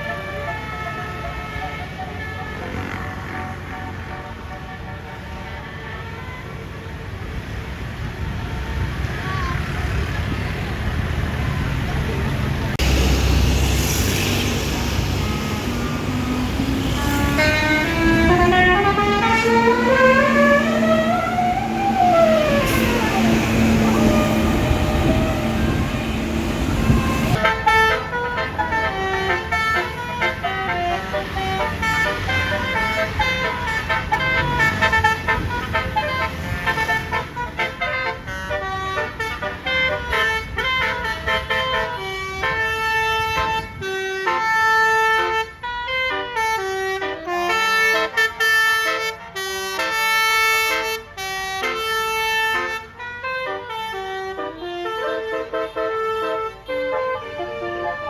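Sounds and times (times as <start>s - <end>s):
bus horn playing a melody: 0.0s - 6.8s, 15.0s - 58.0s.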